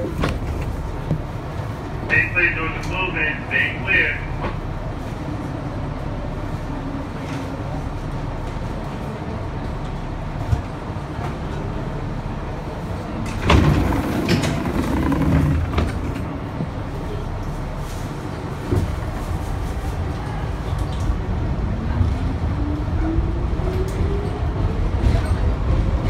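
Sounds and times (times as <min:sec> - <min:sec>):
subway car rumble: 0:00.0 - 0:26.0
train clatter and rattling: 0:00.0 - 0:26.0.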